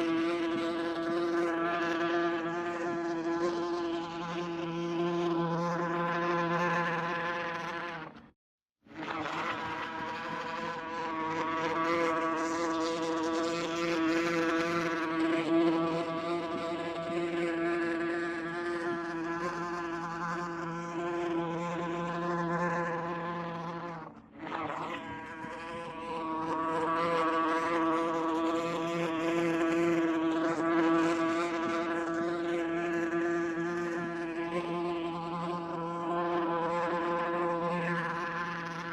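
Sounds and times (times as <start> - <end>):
wasp buzzing in flight: 0.0 - 8.2, 9.0 - 38.9.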